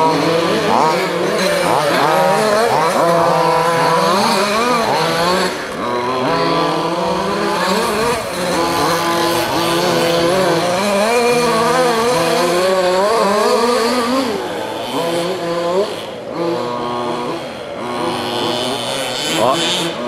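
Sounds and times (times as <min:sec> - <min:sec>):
rc buggy nitro engines revving: 0:00.0 - 0:20.0.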